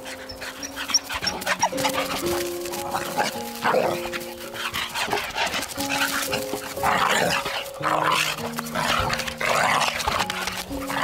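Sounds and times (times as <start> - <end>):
background music with sustained notes: 0.0 - 11.0
dogs growling and huffing: 0.0 - 11.0.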